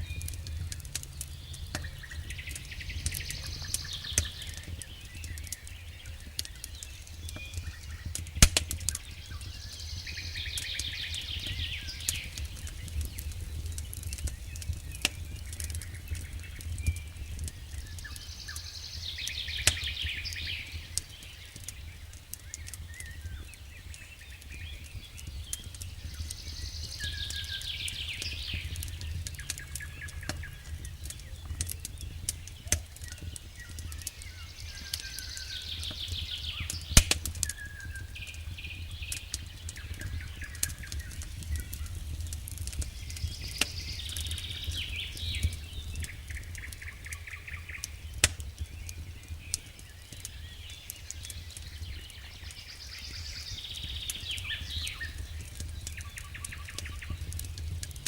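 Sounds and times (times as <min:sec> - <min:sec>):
bird chirping: 0:00.0 - 0:57.5
sharp pops from fire: 0:00.0 - 0:58.0
wood fire crackling: 0:00.0 - 0:58.0.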